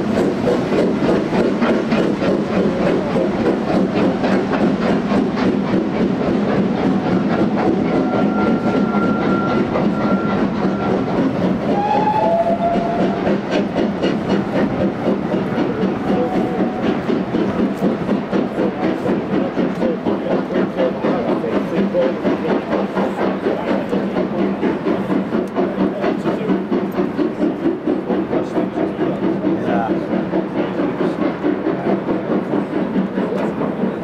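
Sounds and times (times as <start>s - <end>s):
train wheels clicking over rail joints: 0.0s - 34.0s.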